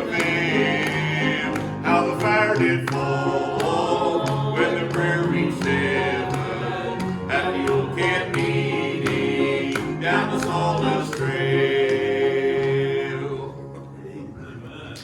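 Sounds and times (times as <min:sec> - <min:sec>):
gospel trio singing: 0:00.0 - 0:15.0.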